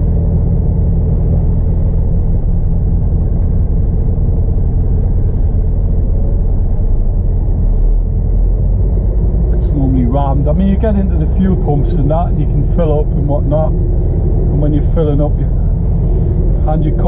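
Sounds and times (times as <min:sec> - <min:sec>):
diesel lorry engine drone: 0:00.0 - 0:17.0.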